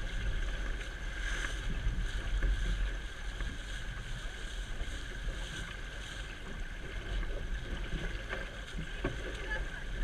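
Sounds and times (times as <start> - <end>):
water rushing and splashing: 0.0 - 10.0
wind buffeting microphone: 0.0 - 10.0.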